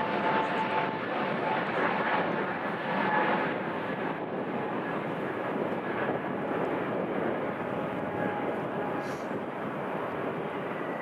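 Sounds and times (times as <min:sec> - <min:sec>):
airliner engines running: 0:00.0 - 0:11.0.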